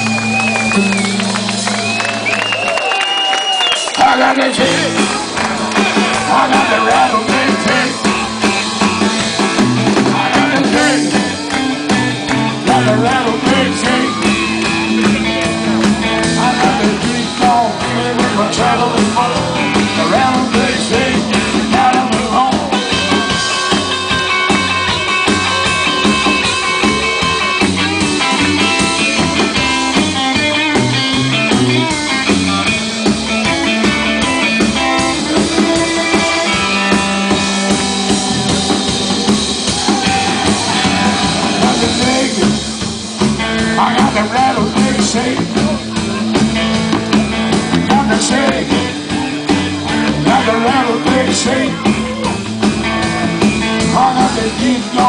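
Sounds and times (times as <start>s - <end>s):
bass guitar: 0.0s - 55.0s
drum kit: 0.0s - 55.0s
electric guitar bending: 4.3s - 55.0s.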